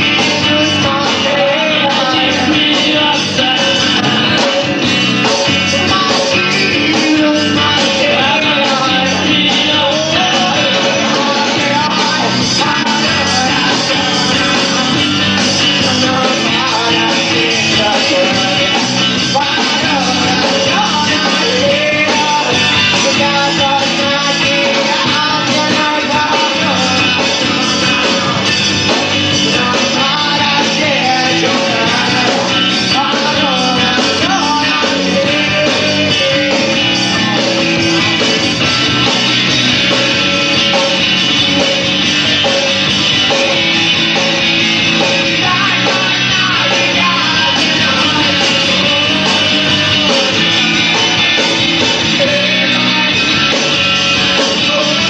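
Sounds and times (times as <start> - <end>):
person singing: 0.0 - 55.0
rock band playing live: 0.0 - 55.0.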